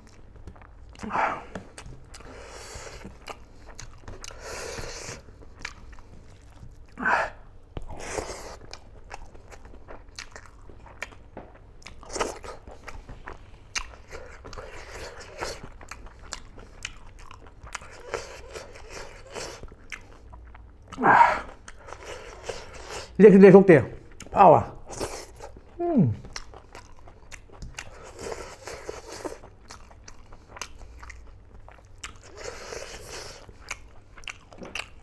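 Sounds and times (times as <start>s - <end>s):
man chewing food: 0.0s - 23.2s, 23.9s - 35.0s.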